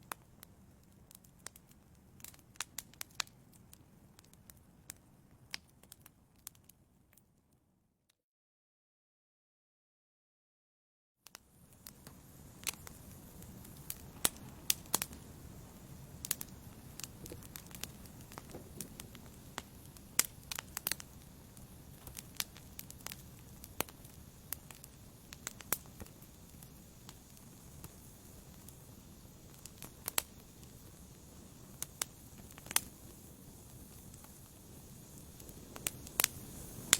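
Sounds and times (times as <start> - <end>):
wood fire crackling and popping: 0.0 - 7.2, 11.3 - 36.9.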